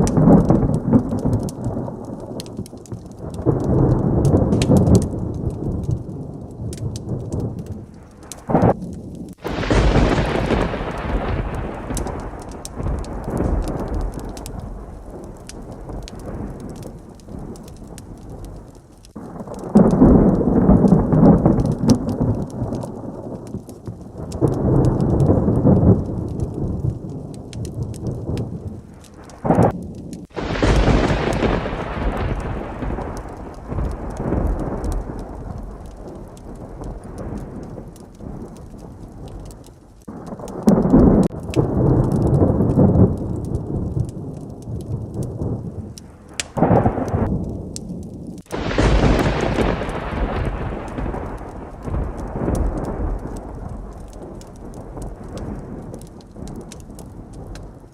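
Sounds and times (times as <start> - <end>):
sharp close thunder crack: 0.0 - 57.9
steady heavy rain: 0.0 - 57.9
thunder rolling: 0.0 - 57.9.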